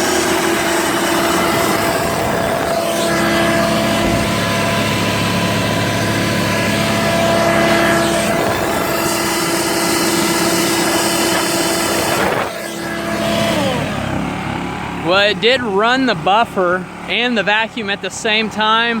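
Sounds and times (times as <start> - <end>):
generator running under load: 0.0 - 19.0
motor whine: 0.0 - 19.0.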